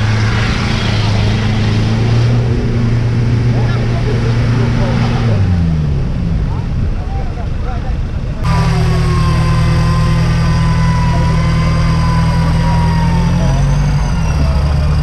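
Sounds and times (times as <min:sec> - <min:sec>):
vehicle engine running at low revs: 0:00.0 - 0:15.0.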